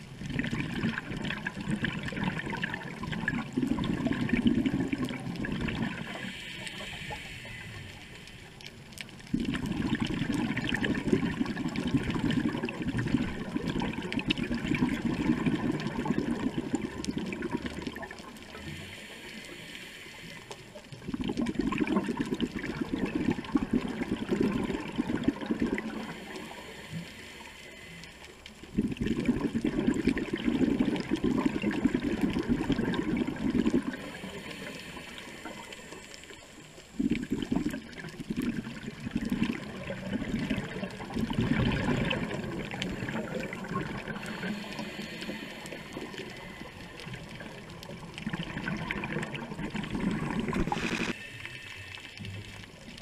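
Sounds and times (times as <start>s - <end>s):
underwater bubbles gurgling: 0.0s - 53.0s.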